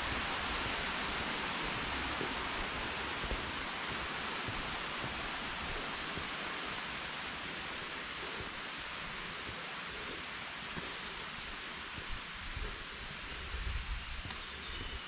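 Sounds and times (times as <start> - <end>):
thin steady high tone: 0.0 - 15.0.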